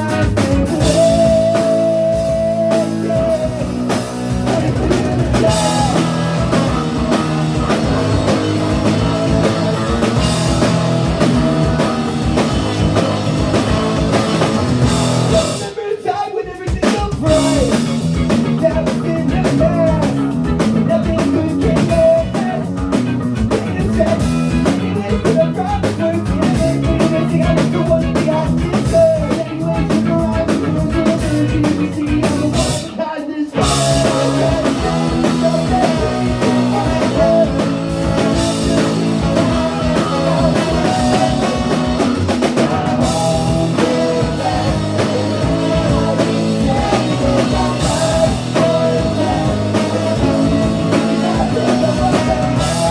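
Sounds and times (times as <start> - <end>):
drum kit: 0.0 - 52.9
guitars: 0.0 - 52.9
person singing: 0.0 - 52.9.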